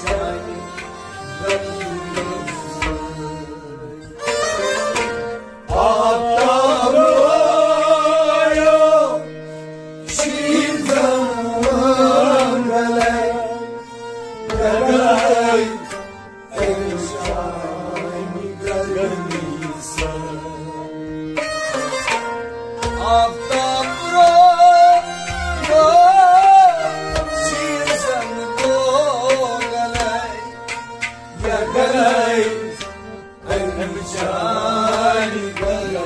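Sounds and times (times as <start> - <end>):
harmonium: 0.0 - 36.0
men singing devotional song: 0.0 - 36.0.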